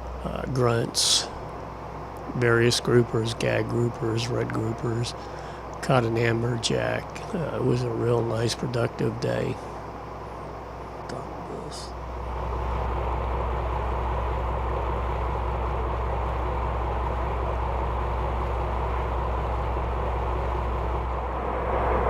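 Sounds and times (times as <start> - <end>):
boat engine hum: 0.0 - 22.0.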